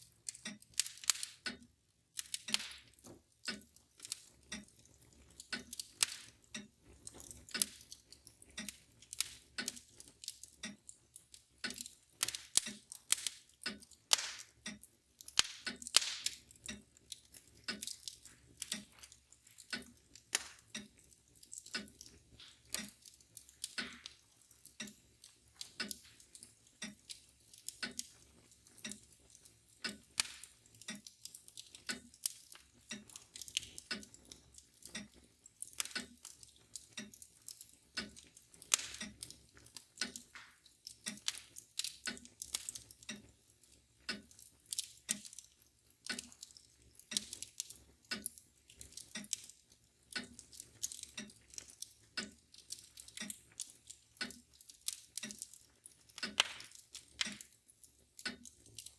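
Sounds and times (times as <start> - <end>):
mantel clock ticking: 0.0 - 58.9
wood fire crackling and popping: 0.0 - 58.9.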